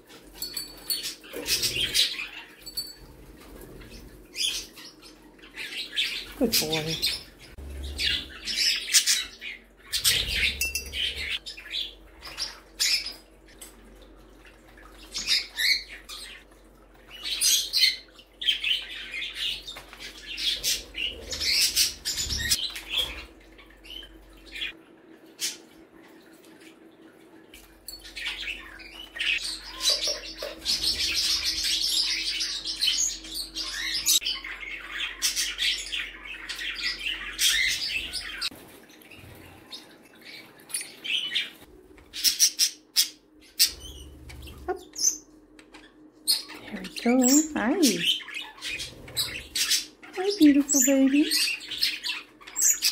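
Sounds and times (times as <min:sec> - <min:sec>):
parakeets chirping and chattering: 0:00.0 - 0:24.8, 0:27.6 - 0:52.9.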